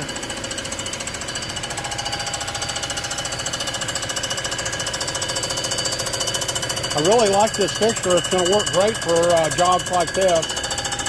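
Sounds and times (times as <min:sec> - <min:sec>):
milling cutter rhythmic chatter: 0:00.0 - 0:11.0
steady machine whine: 0:00.0 - 0:11.0.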